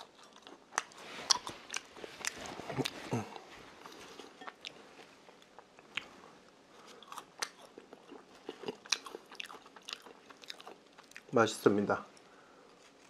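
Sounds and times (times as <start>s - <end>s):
person chewing fries: 0.0s - 11.3s.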